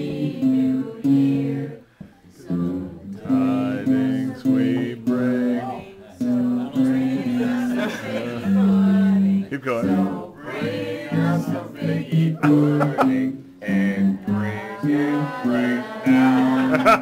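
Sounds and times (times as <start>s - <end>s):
bass guitar playing: 0.0s - 17.0s.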